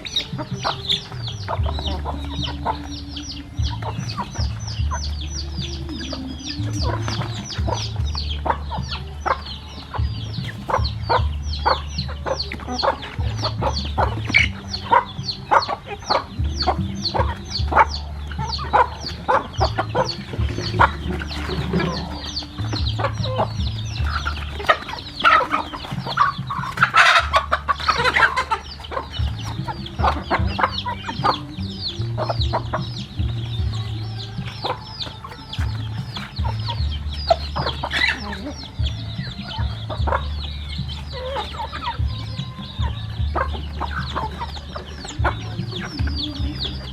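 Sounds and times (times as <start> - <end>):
chickens clucking: 0.0 - 46.9.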